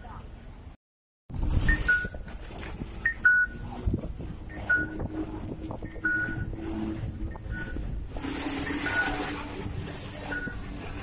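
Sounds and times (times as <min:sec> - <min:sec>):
low hum of traffic: 0:00.0 - 0:11.0.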